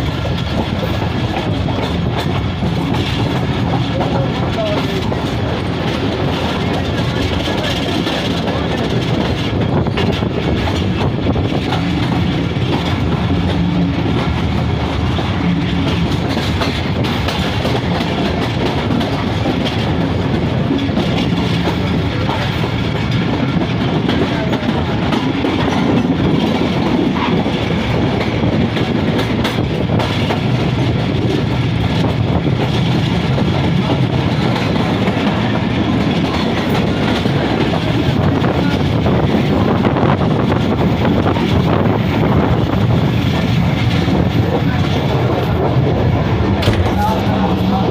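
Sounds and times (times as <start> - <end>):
train carriage rumble and rattle: 0.0 - 47.9
wheels clacking on rails: 0.0 - 47.9.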